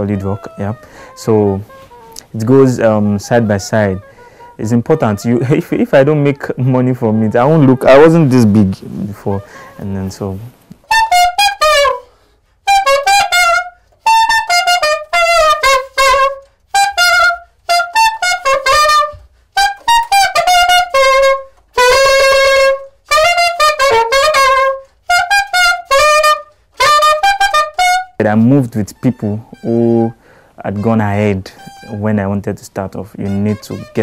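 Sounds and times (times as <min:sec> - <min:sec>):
saxophone solo: 0:00.0 - 0:34.0.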